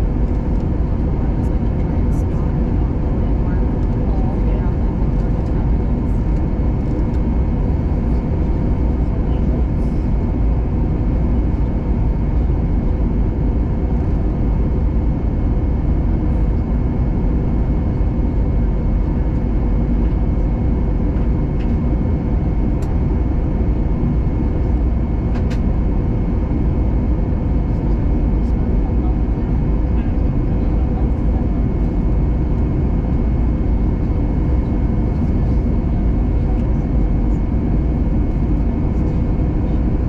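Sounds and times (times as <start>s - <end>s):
airliner cabin engine rumble: 0.0s - 40.0s
faint steady hums: 0.0s - 40.0s.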